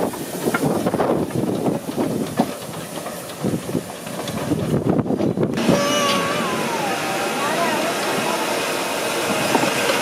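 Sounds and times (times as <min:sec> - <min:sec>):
locomotive wheels clanking: 0:00.0 - 0:10.0
steam hissing: 0:00.0 - 0:10.0.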